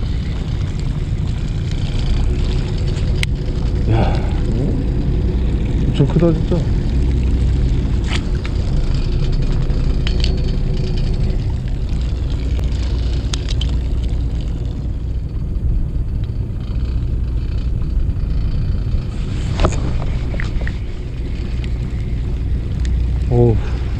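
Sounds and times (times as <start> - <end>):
boat engine droning: 0.0 - 23.9.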